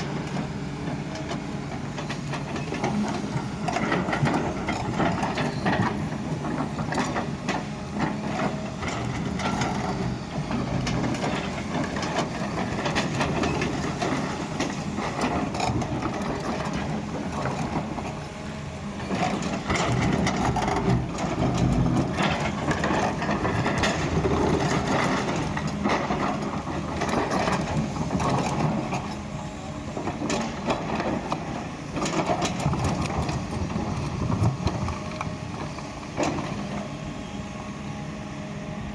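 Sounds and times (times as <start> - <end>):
excavator bucket knocking and scraping: 0.0 - 18.4, 19.0 - 37.0
excavator diesel engine: 0.0 - 38.9.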